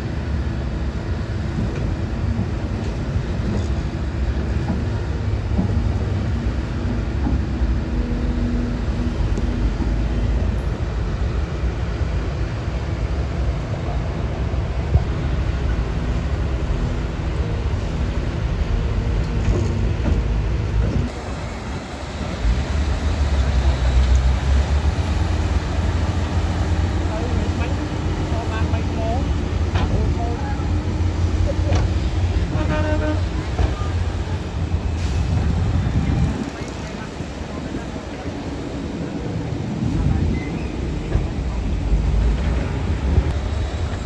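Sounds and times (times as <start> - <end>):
bulldozer diesel engine under load: 0.0 - 44.0.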